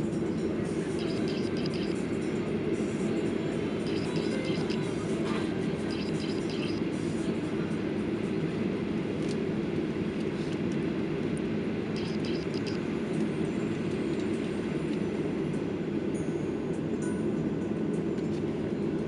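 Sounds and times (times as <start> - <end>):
jet engines and wheels rumbling: 0.0 - 19.0.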